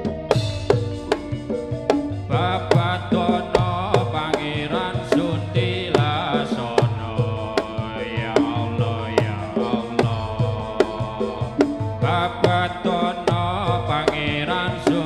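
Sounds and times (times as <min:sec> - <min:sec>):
sharp drum strikes: 0:00.0 - 0:15.0
wavering melody line: 0:00.0 - 0:15.0.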